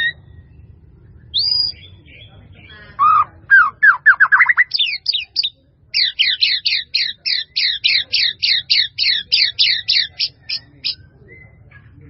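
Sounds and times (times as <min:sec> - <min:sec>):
songbird whistled song: 0:00.0 - 0:11.6.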